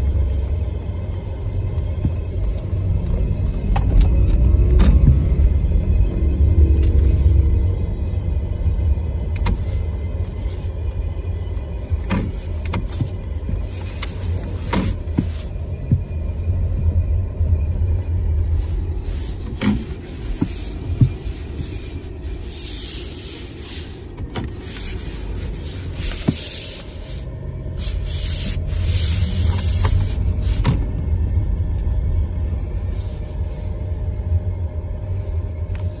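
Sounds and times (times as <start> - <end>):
car low rumble: 0.0 - 36.0.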